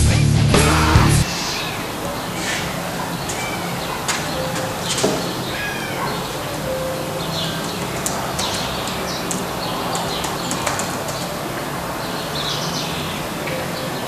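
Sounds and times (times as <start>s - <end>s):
background hiss: 1.2s - 14.0s
small birds chirping: 1.2s - 14.0s.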